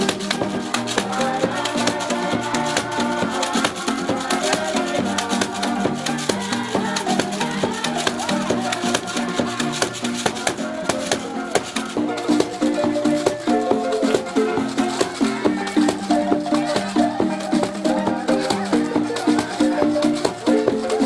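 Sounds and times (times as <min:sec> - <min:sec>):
marimba ensemble groove: 0:00.0 - 0:21.0
shaker rattling: 0:00.0 - 0:21.0.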